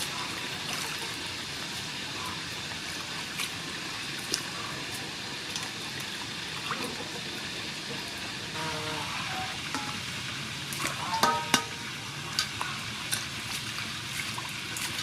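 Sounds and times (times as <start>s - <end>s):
water running and trickling: 0.0s - 15.0s.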